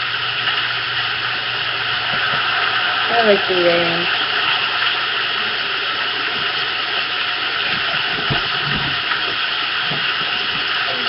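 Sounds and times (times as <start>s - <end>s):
heavy rain hiss: 0.0s - 11.0s.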